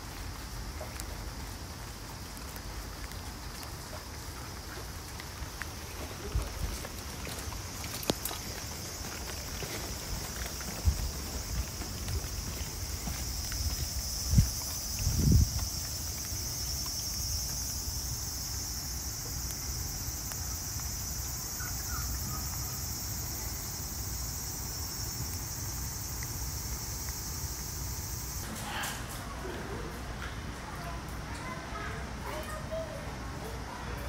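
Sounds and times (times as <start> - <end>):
shrill insect chorus: 0.0 - 30.0.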